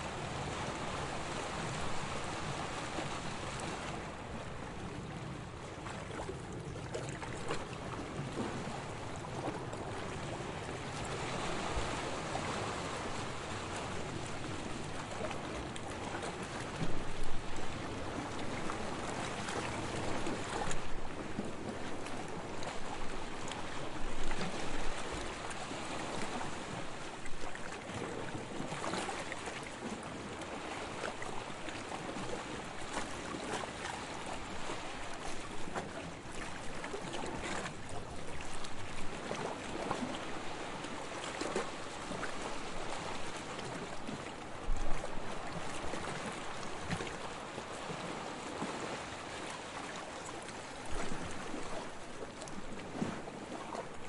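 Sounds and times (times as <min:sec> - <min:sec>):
sea water lapping and splashing: 0:00.0 - 0:54.0.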